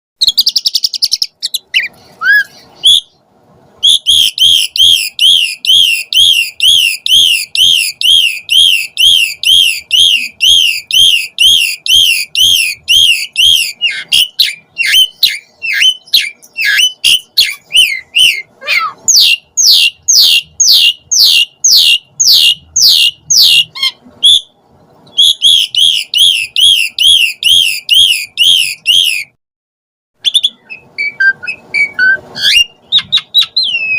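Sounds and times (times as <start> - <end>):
starling singing whistled notes: 0.2 - 3.2, 3.8 - 29.4, 30.2 - 33.9.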